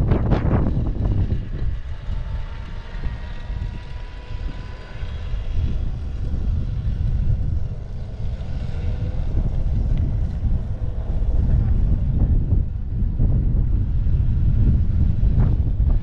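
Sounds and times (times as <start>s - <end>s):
faint whine: 0.0s - 16.0s
motorcycle engine running: 0.0s - 16.0s
wind rumble on microphone: 0.0s - 16.0s.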